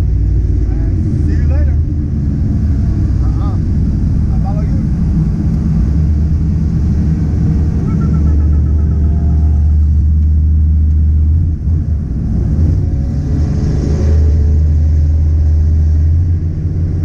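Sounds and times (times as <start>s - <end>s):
car engine droning while driving: 0.0s - 17.0s.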